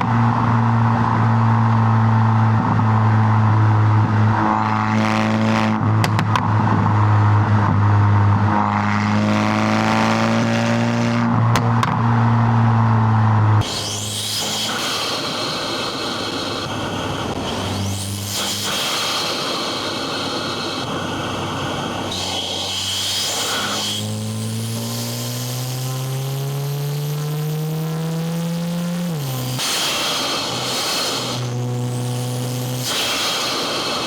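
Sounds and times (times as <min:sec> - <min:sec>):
car engine and exhaust accelerating: 0:00.0 - 0:34.0
road and tyre noise: 0:00.0 - 0:34.0.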